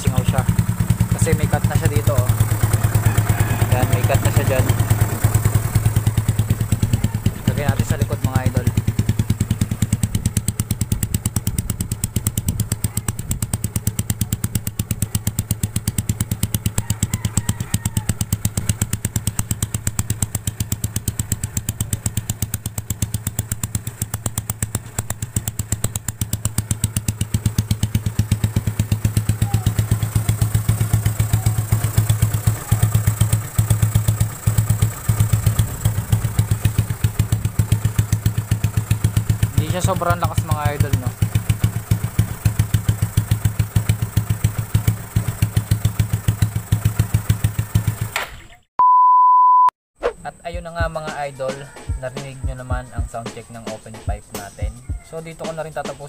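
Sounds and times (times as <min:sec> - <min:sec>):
scooter engine idling: 0:00.0 - 0:48.7, 0:50.5 - 0:56.0.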